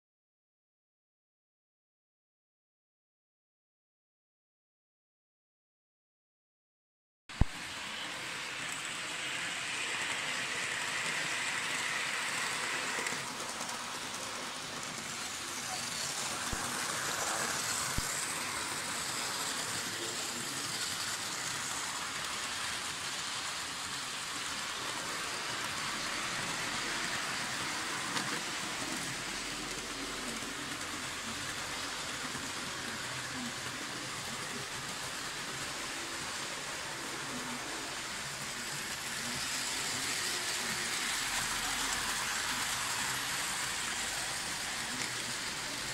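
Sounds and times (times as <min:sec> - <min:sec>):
model train rolling on metal track: 0:07.4 - 0:45.9.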